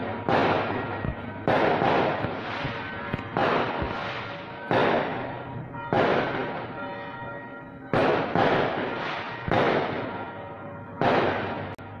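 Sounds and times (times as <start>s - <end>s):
fireworks bangs: 0.0s - 7.2s, 7.9s - 12.0s
faint music: 0.0s - 12.0s.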